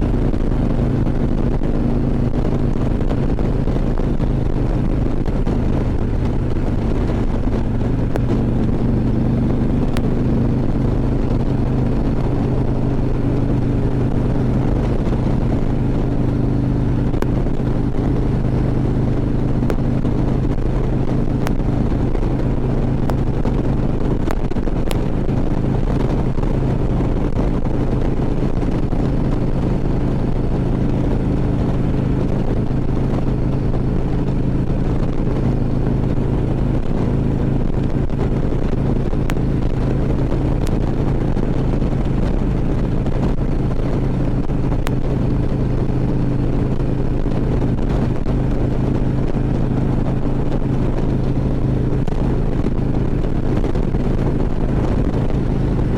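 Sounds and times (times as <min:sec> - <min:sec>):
motorcycle engine cruising: 0:00.0 - 0:55.9
wind and road rush: 0:00.0 - 0:55.9.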